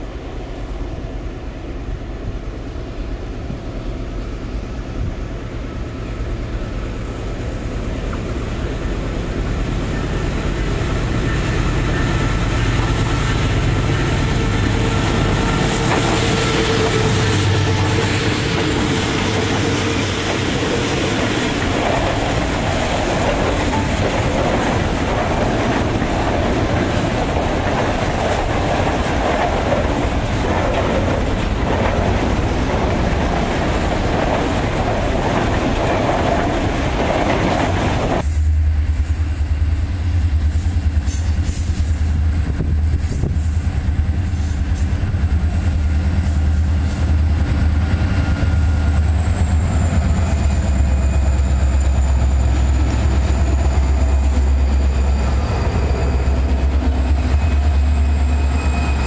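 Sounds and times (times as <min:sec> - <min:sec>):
diesel locomotive rumble: 0:00.0 - 0:59.0
diesel locomotives running: 0:00.0 - 0:59.0.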